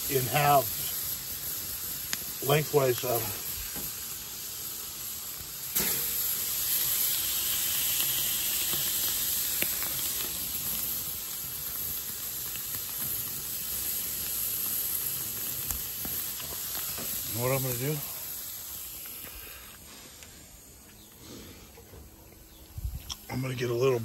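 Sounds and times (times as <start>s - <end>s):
chicken sizzling on a grill: 0.0s - 24.0s.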